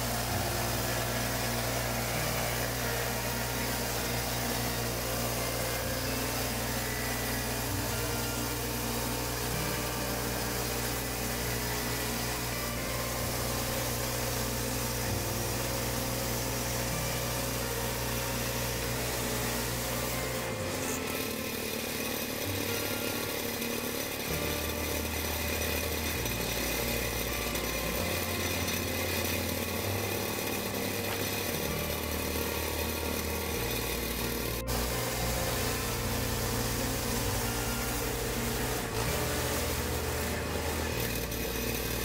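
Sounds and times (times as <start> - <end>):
band blade sawing through log: 0.0 - 42.0
gas engine running under load: 0.0 - 42.0.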